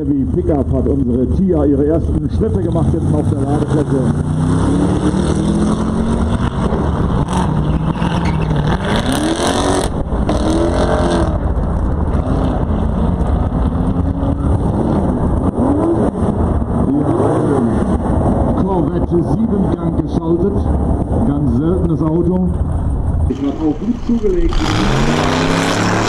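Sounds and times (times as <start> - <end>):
steady low rumble: 0.0 - 9.2, 9.9 - 25.4
drag racing car engines revving: 0.0 - 26.0.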